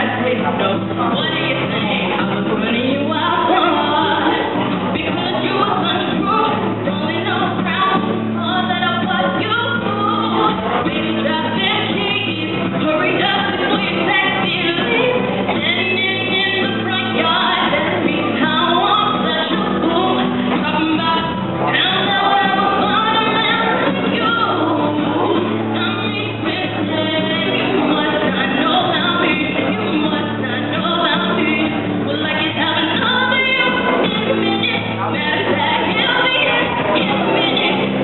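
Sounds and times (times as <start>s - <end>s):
strummed acoustic guitar: 0.0s - 38.0s
woman singing into microphone: 0.0s - 38.0s.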